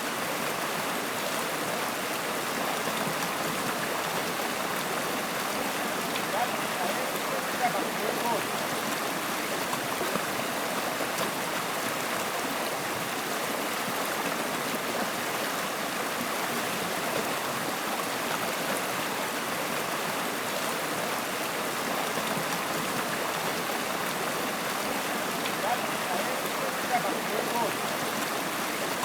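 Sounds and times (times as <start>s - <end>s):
stream water flowing: 0.0s - 29.0s.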